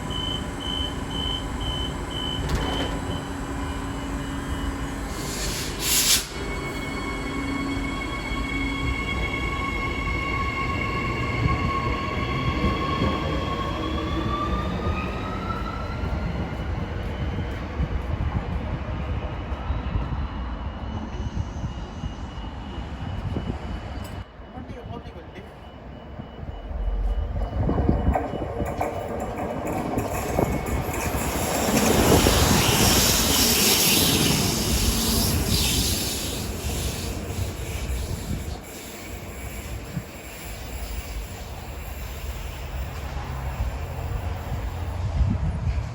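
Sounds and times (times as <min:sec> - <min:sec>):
electric train whine: 0:00.0 - 0:45.9
low train rumble: 0:00.0 - 0:45.9.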